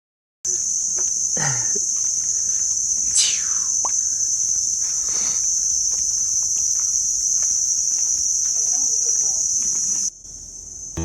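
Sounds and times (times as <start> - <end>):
insects droning: 0.5 - 11.0.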